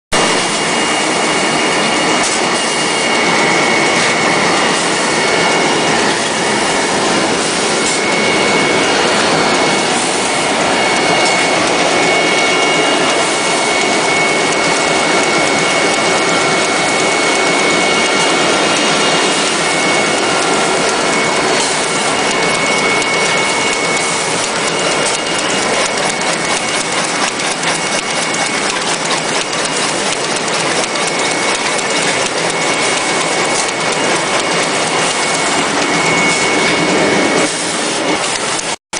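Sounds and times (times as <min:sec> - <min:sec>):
machine mechanical noise: 0:00.1 - 0:38.8
thin high whine: 0:00.2 - 0:38.8.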